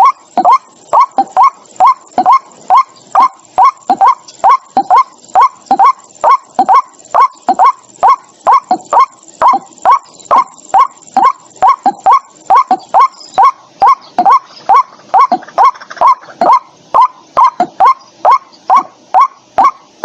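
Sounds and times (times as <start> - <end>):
bird calling harsh notes: 0.0 - 20.0.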